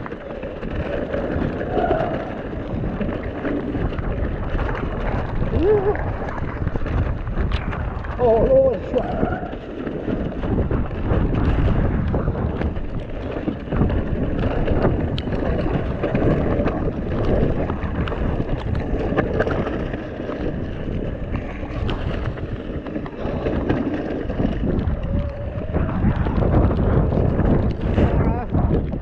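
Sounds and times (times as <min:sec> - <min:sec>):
bike tyres and frame rattling: 0:00.0 - 0:29.0
wind buffeting microphone: 0:00.0 - 0:29.0.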